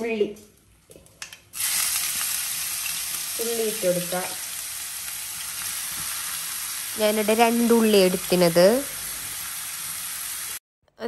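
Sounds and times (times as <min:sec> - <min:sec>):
onions sizzling in hot oil: 0:01.6 - 0:10.6.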